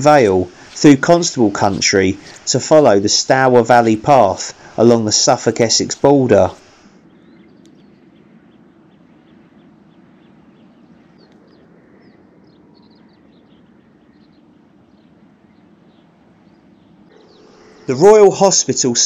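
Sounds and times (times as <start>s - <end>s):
birds chirping: 0.0s - 19.0s
faint low background noise: 0.0s - 19.0s.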